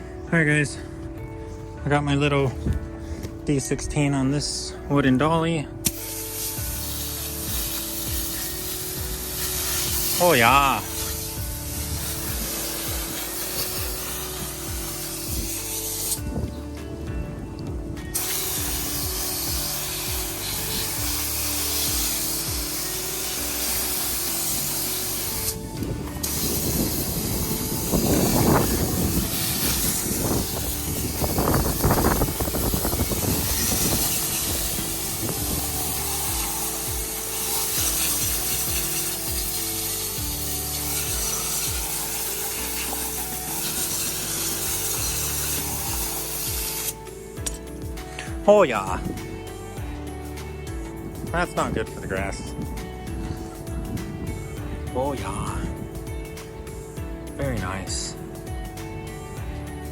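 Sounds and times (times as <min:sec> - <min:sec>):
background music: 0:00.0 - 0:59.9
spray hissing on engine: 0:05.8 - 0:17.0, 0:17.9 - 0:58.2.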